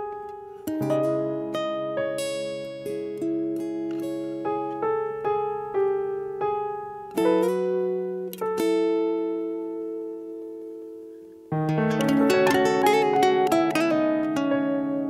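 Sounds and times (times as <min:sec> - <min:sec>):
acoustic guitars plucking melody: 0:00.0 - 0:15.0
guitar chord ringing: 0:00.0 - 0:15.0.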